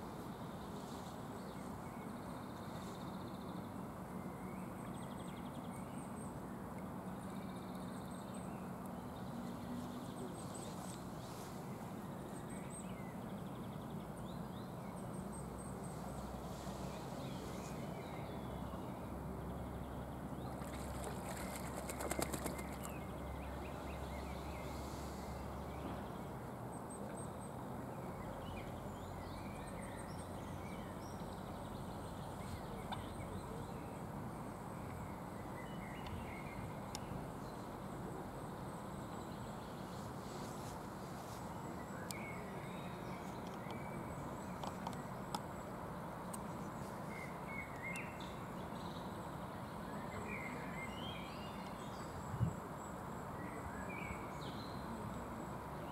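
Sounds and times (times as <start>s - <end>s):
steady background hiss: 0.0s - 55.9s.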